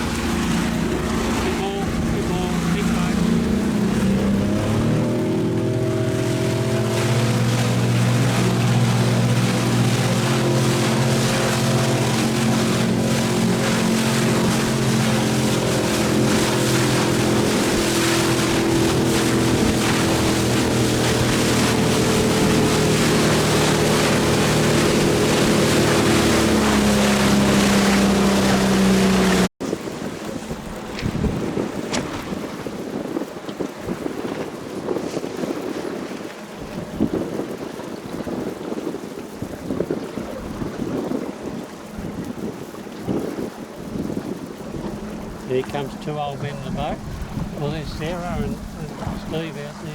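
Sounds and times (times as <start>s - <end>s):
motorboat engine running: 0.0s - 49.9s
water noise: 0.0s - 49.9s
wind: 0.0s - 49.9s.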